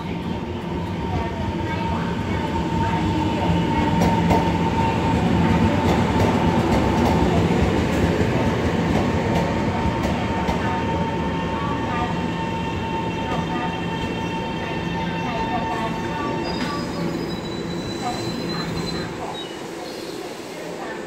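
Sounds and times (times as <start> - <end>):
train wheels on rail: 0.6 - 21.0.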